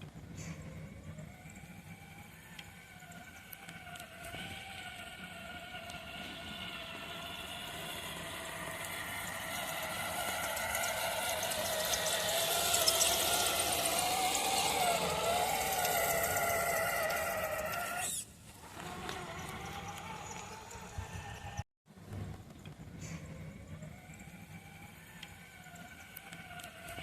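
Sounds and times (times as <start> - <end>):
toy truck electric motor whining: 0.5 - 21.6, 23.5 - 27.0.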